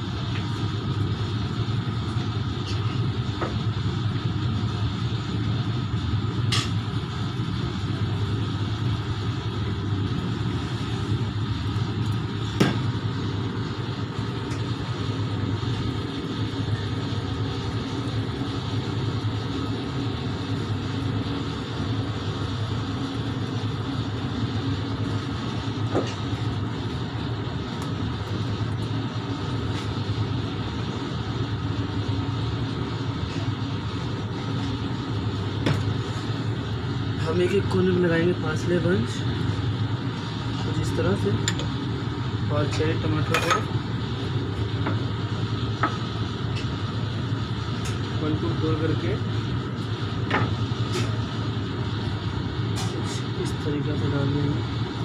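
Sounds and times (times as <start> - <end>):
kitchen equipment humming: 0.0 - 55.0.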